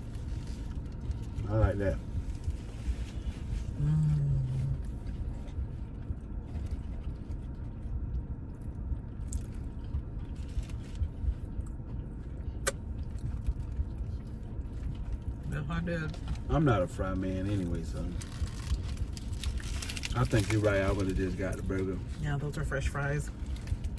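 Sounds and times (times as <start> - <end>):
low engine rumble: 0.0 - 23.9
short low hum: 0.0 - 23.9.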